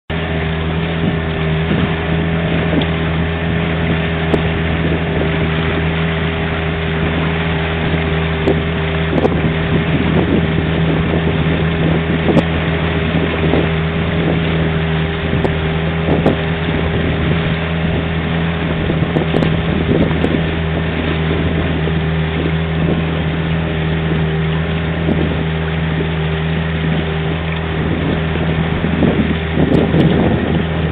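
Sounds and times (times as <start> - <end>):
boat motor droning: 0.1 - 30.9
wind buffeting microphone: 0.1 - 30.9.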